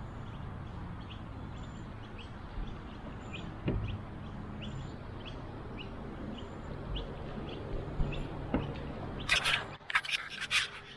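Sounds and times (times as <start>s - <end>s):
small bird chirping: 0.0s - 10.9s.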